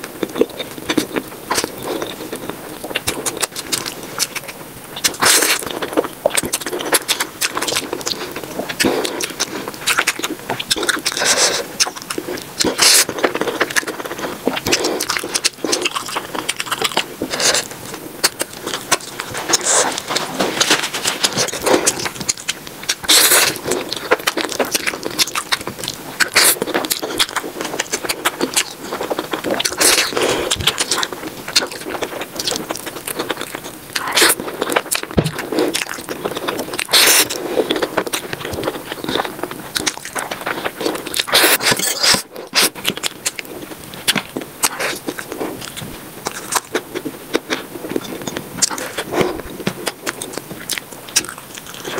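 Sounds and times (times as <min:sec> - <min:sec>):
chewing clicks: 0:00.1 - 0:51.9
noodles being slurped: 0:01.0 - 0:33.0, 0:33.6 - 0:50.8.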